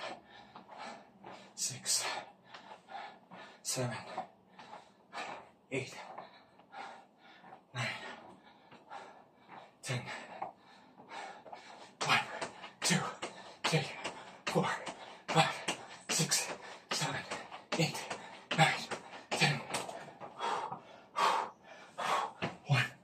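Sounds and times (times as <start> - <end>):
man breathing heavily: 0.0 - 23.0.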